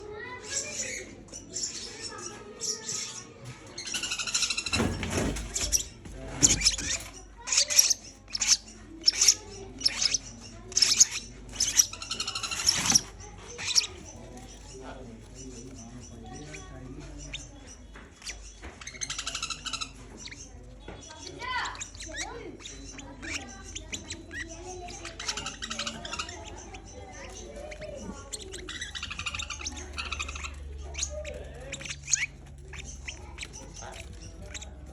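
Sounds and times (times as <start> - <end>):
birds chirping and calling: 0.0 - 34.9.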